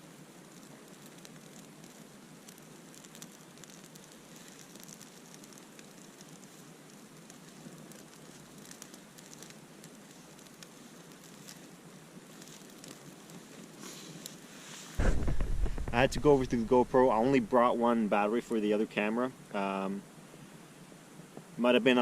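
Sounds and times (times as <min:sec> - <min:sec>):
campfire hissing and crackling: 0:00.0 - 0:22.0.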